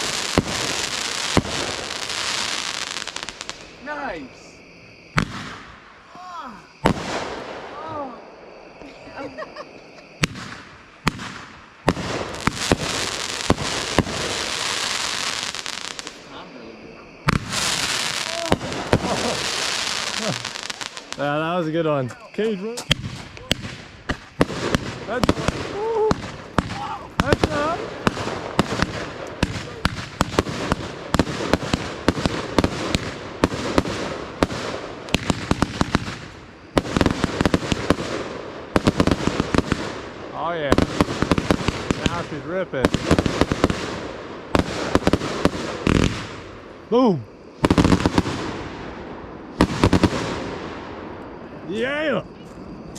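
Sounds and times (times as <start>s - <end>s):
firework bangs: 0.0s - 52.9s
firework crackling: 0.0s - 52.9s.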